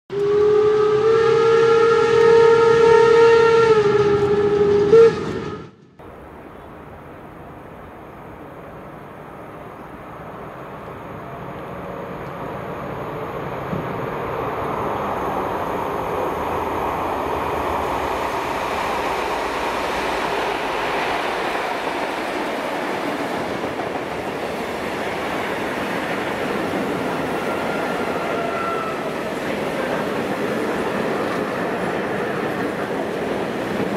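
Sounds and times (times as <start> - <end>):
diesel locomotives: 0.1 - 33.9
wagons rumbling on rails: 0.1 - 33.9.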